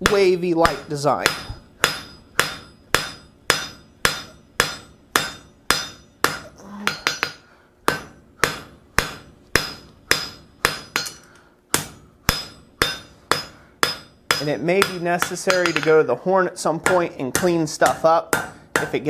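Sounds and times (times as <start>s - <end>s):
hammer striking steel on anvil: 0.0s - 16.1s, 16.8s - 19.0s.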